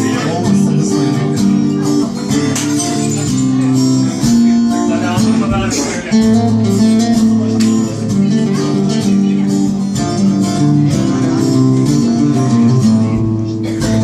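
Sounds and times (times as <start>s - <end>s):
acoustic guitar strummed and picked: 0.0s - 14.0s.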